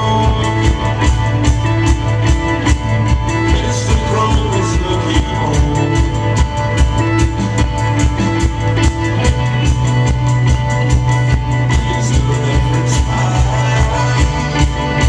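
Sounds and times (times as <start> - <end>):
electric guitars: 0.0 - 15.0.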